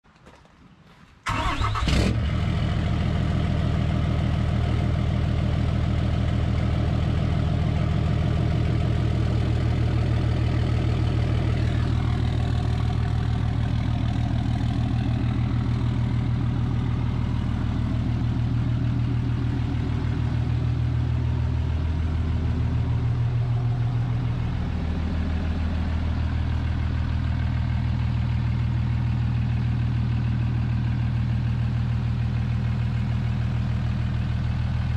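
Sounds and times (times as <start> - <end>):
diesel engine starting and idling: 1.2 - 34.9.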